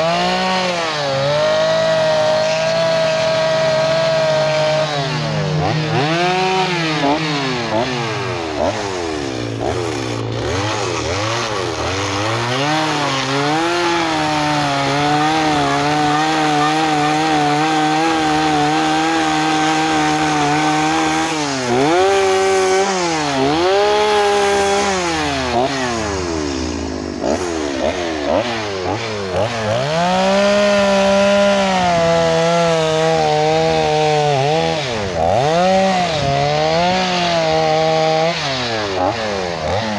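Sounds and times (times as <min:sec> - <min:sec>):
chainsaw cutting into log: 0:00.0 - 0:39.9.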